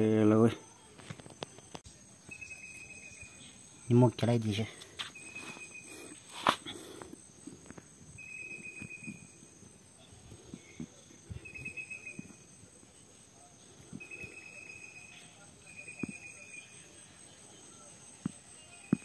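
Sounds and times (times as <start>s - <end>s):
insect trilling: 0.0s - 12.8s, 13.6s - 17.2s.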